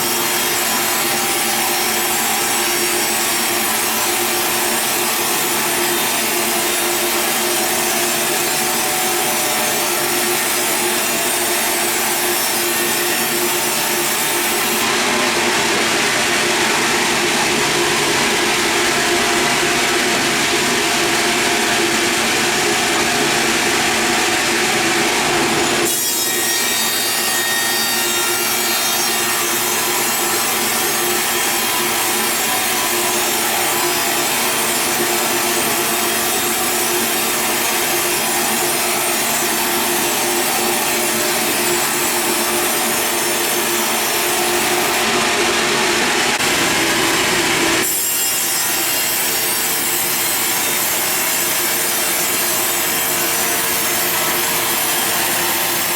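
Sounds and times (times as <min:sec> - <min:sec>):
saw blade cutting log: 0:00.0 - 0:55.9.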